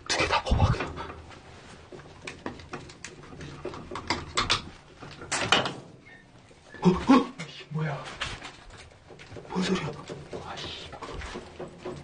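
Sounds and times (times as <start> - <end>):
hand scraping cables and pipes: 0.0 - 12.0.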